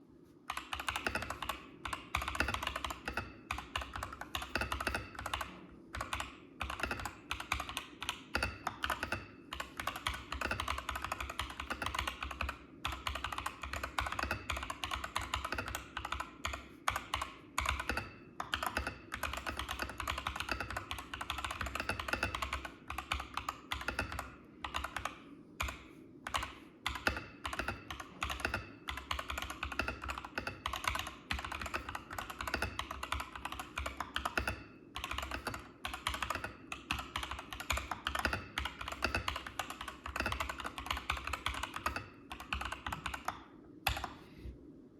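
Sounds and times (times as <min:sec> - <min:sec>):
fast typing on mechanical keyboard: 0:00.5 - 0:44.2.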